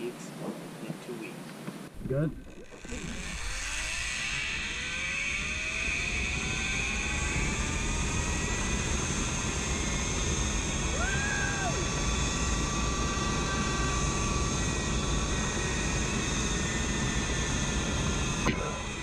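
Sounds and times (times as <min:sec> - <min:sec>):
zipline pulleys whining on cable: 0:02.4 - 0:19.0.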